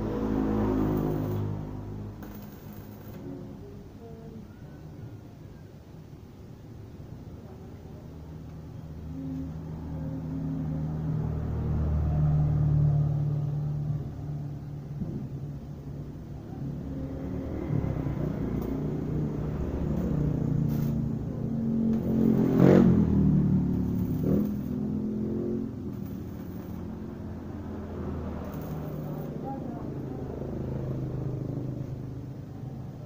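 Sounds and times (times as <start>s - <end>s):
car engines passing: 0.0s - 3.2s, 8.6s - 33.0s
motorcycle engines passing: 0.0s - 3.7s, 9.0s - 33.0s.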